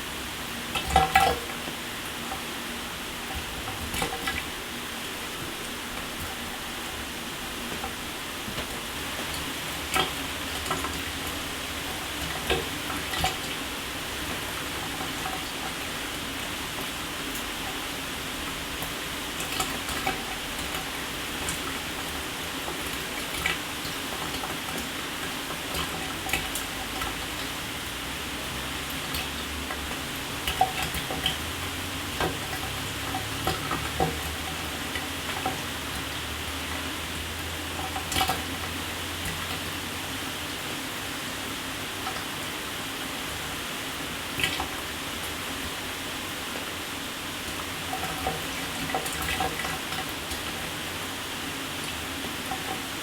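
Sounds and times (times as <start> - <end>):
water splashes and drips: 0.1 - 53.0.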